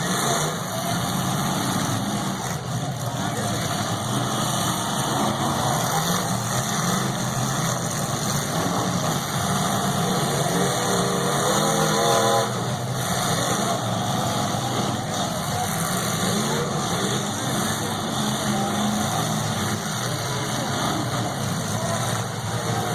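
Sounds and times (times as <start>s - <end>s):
car engines droning: 0.0s - 22.9s.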